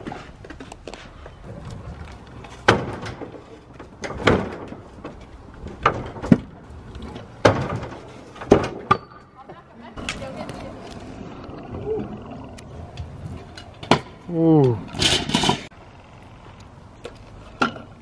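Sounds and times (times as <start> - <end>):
wheels rolling on concrete: 0.0 - 18.0.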